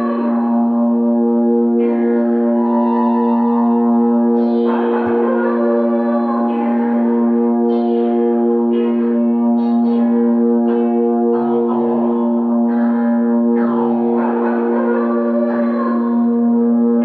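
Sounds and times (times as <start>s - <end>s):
music with held drone: 0.0s - 17.0s.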